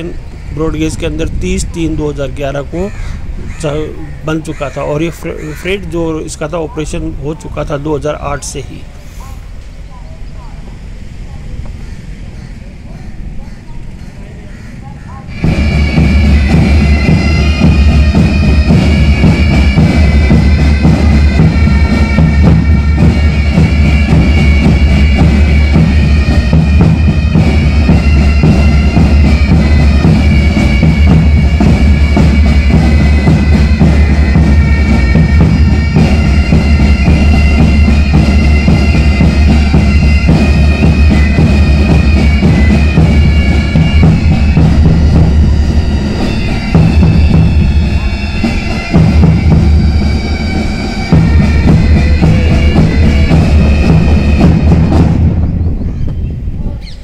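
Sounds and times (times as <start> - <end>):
bagpipe music with drones: 0.0 - 8.9, 14.0 - 55.9.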